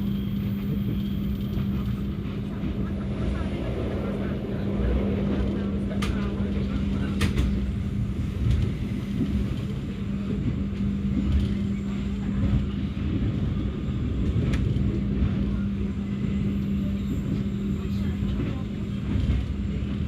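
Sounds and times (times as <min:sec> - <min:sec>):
constant hum: 0:00.0 - 0:20.0
train rumble: 0:00.0 - 0:20.0.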